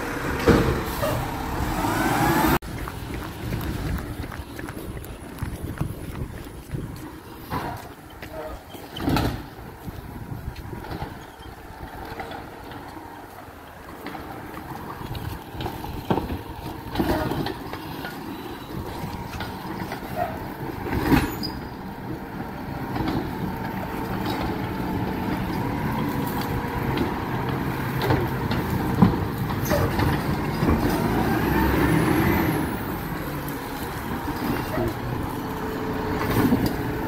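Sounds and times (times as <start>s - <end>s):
garbage truck engine running: 0.0s - 37.0s.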